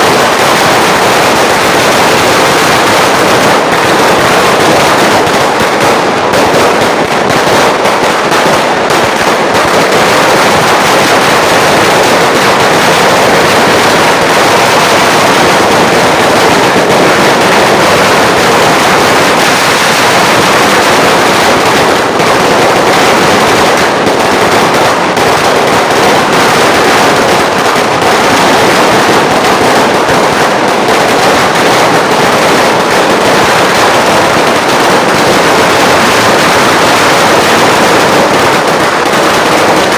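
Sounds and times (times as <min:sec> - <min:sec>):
firecracker string popping: 0:00.0 - 0:39.9.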